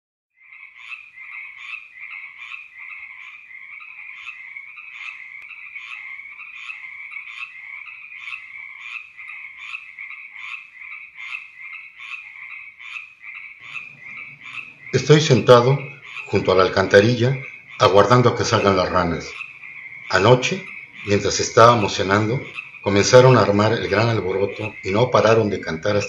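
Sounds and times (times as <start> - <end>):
frogs croaking: 0.4 - 26.0.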